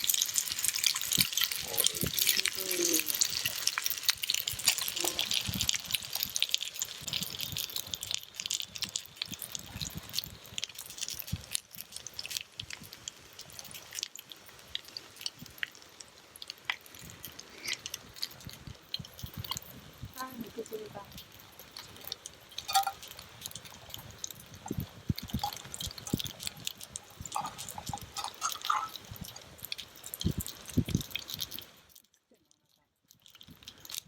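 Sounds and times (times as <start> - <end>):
dumplings sizzling in a pan: 0.0 - 34.0.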